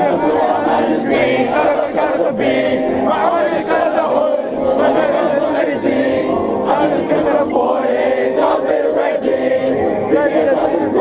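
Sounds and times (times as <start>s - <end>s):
crowd chanting and singing: 0.0s - 11.0s
live rap music: 0.0s - 11.0s.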